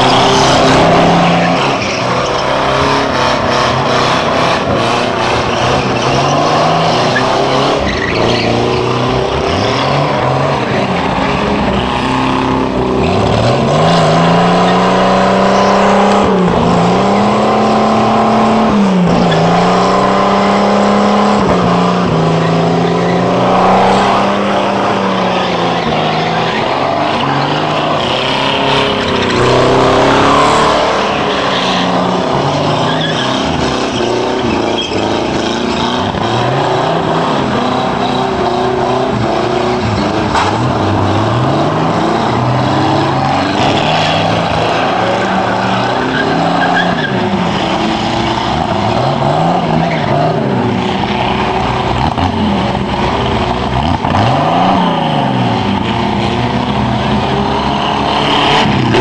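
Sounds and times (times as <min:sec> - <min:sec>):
car engines revving hard: 0:00.0 - 0:59.0
tyres skidding: 0:00.0 - 0:59.0.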